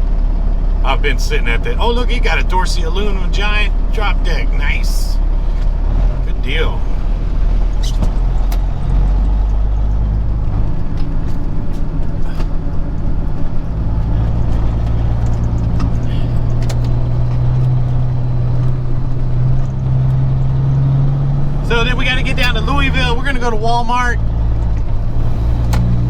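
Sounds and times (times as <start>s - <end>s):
diesel truck engine drone: 0.0s - 26.0s.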